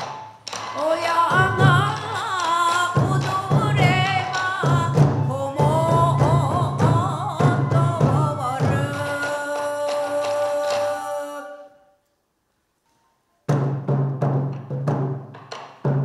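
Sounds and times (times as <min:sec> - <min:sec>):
taiko drums: 0:00.0 - 0:11.2, 0:13.5 - 0:16.0.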